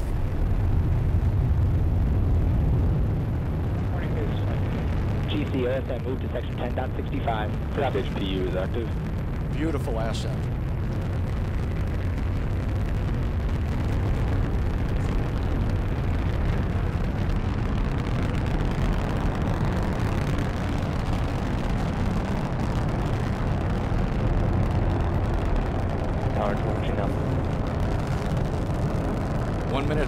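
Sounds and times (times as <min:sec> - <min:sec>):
rocket engines roaring: 0:00.0 - 0:30.0.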